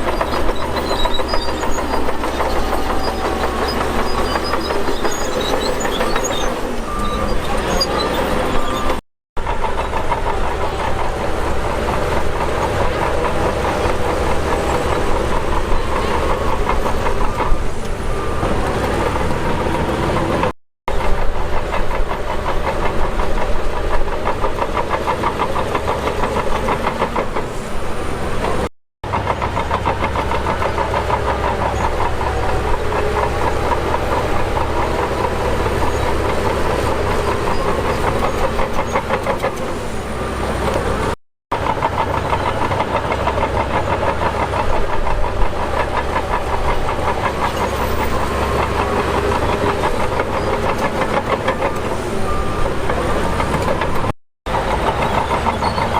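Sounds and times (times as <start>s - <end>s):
heavy diesel machinery running: 0.0s - 55.9s.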